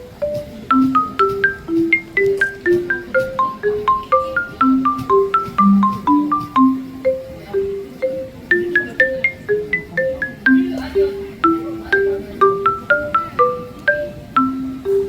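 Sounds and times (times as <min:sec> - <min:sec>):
bouncy marimba melody: 0:00.0 - 0:15.0.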